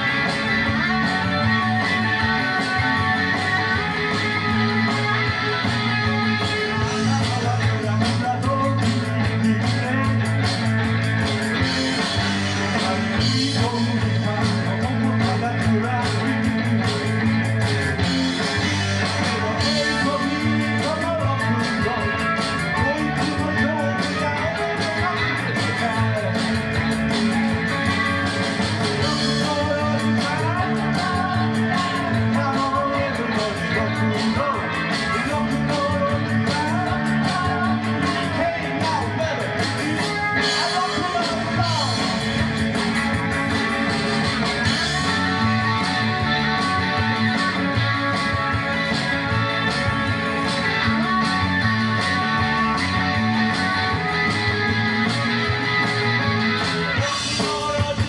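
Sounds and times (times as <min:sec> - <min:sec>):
person singing: 0:00.0 - 0:10.7, 0:11.5 - 0:17.2, 0:18.0 - 0:42.4, 0:43.2 - 0:58.0
drums with steady beat: 0:00.0 - 0:58.0
electric guitars: 0:00.0 - 0:58.0
rock band playing: 0:00.0 - 0:58.0.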